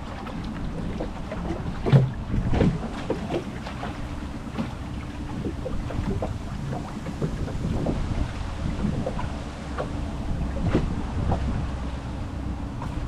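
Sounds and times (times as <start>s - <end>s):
boat engine idling: 0.0s - 13.0s
wind on microphone: 0.0s - 13.0s.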